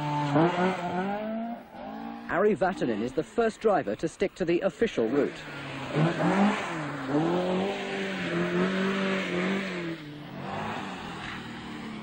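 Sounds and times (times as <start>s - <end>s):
rally car engine revving: 0.0s - 4.1s, 4.8s - 12.0s
second rally car engine: 0.0s - 12.0s.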